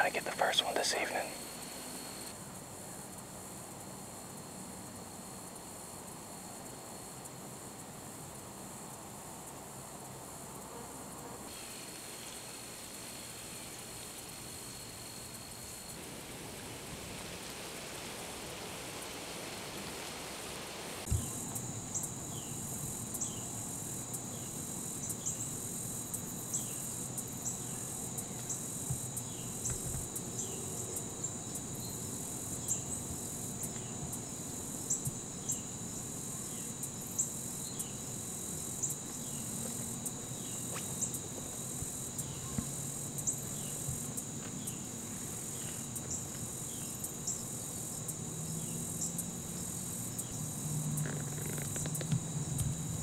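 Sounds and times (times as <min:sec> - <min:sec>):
crickets trilling: 0:00.0 - 0:53.0
insect chirps: 0:00.0 - 0:53.0.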